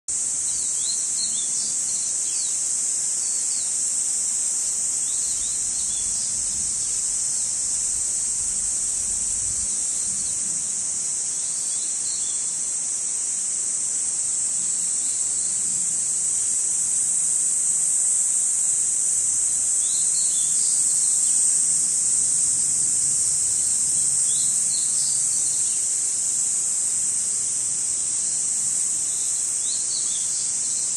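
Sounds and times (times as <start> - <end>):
cicadas droning: 0.1 - 30.9.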